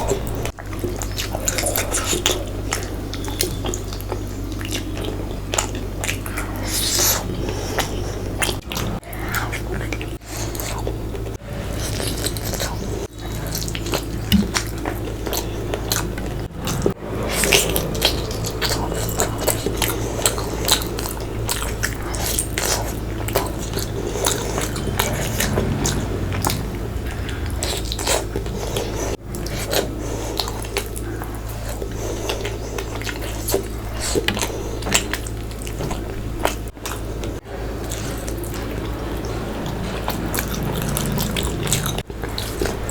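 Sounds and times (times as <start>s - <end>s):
steady low hum: 0.0s - 42.9s
wet chewing and mouth clicks: 0.0s - 42.9s.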